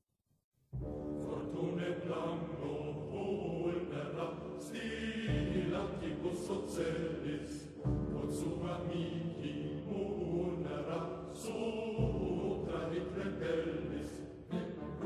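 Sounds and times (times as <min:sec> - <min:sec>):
heavy low notes: 0:00.8 - 0:15.0
choir singing chant-like lines: 0:00.9 - 0:15.0.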